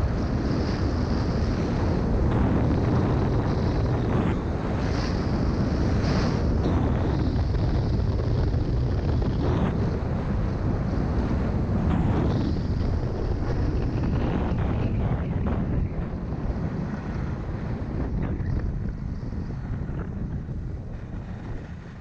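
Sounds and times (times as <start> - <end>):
heavy wind buffeting microphone: 0.0 - 22.0.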